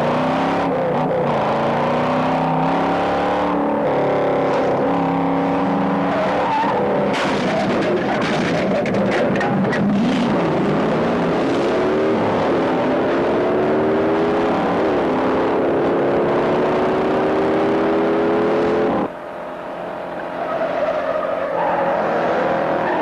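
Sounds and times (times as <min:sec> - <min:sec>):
car engines accelerating: 0:00.0 - 0:23.0.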